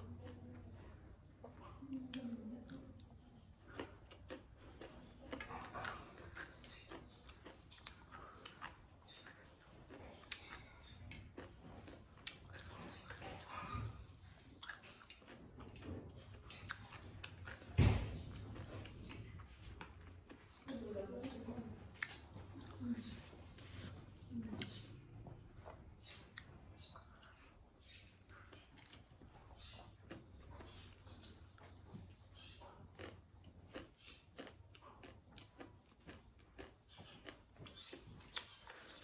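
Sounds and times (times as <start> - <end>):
person chewing: 0.1 - 20.8, 21.8 - 39.0.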